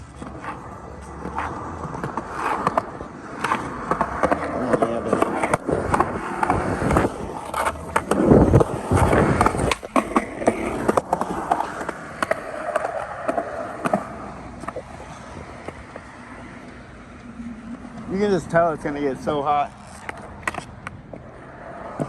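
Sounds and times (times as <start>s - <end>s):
skateboards clacking on ground: 0.0s - 22.0s
skateboards rolling on concrete: 0.0s - 22.0s.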